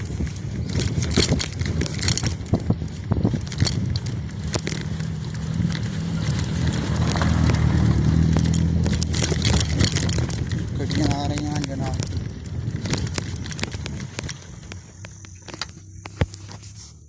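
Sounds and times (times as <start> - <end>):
sharp clicks and crackles: 0.0 - 17.0
vehicle engine running: 0.0 - 17.0.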